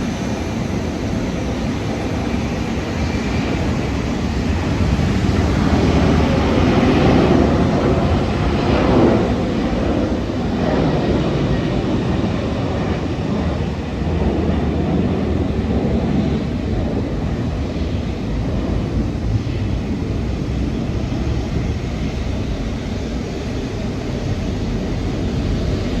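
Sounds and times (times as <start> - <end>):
jet engines rumbling on takeoff: 0.0 - 26.0.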